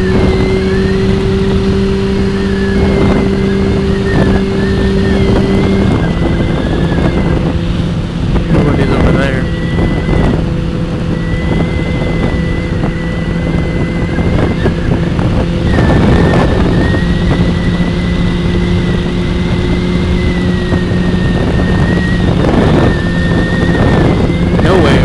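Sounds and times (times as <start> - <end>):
motorcycle engine running: 0.0 - 25.0
thin high whine: 0.0 - 25.0
wind buffeting microphone: 0.0 - 25.0.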